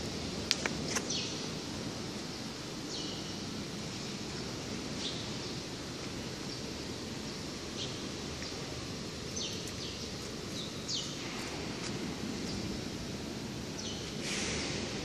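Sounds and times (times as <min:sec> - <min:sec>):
factory hall background noise: 0:00.0 - 0:15.0
small birds chirping: 0:00.8 - 0:14.8.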